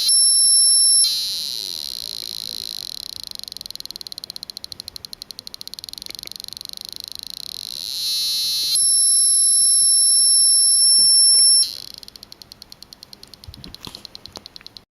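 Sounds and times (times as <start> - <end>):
piezo buzzer ticking and tone: 0.0 - 14.9.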